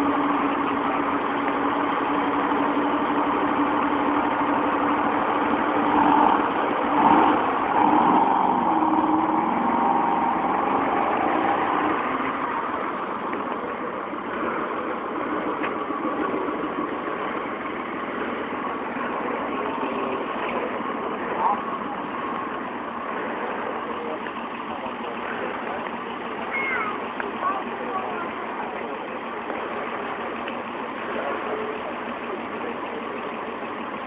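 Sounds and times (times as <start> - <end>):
car engines idling and moving off: 0.0 - 34.0.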